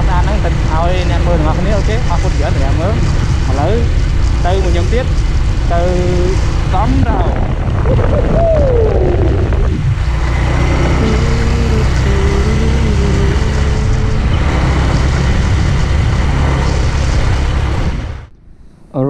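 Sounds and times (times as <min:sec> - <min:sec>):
wind on microphone: 0:00.0 - 0:18.3
motorcycle engine and road rumble: 0:00.0 - 0:18.4.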